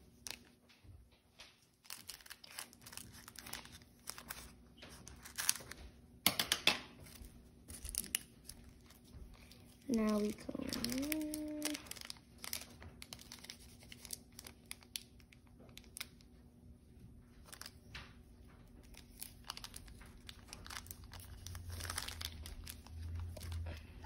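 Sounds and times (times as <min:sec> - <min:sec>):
foil wrapper crinkling and tearing: 0:01.6 - 0:05.9, 0:07.0 - 0:16.3, 0:17.4 - 0:23.9.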